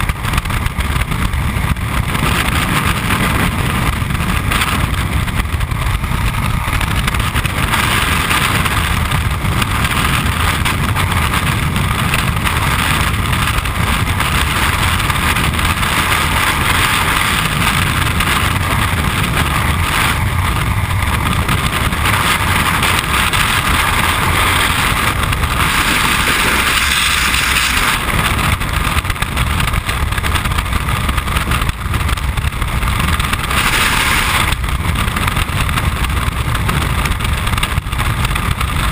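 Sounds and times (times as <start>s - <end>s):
freefall wind buffeting microphone: 0.0s - 38.9s.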